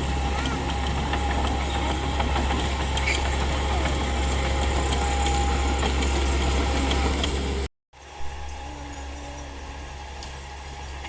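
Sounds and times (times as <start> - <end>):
bulldozer diesel engine droning: 0.0 - 11.0
thin steady whine: 0.0 - 11.0.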